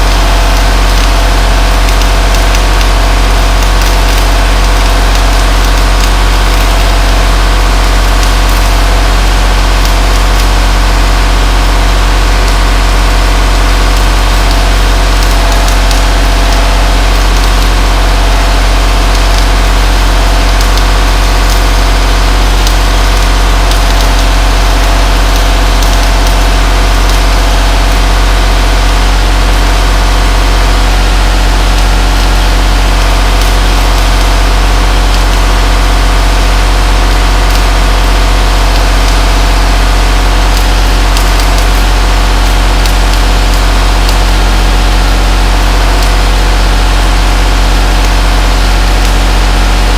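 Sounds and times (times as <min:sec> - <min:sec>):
welding equipment hum: 0:00.0 - 0:49.9
welding hiss: 0:00.0 - 0:49.9.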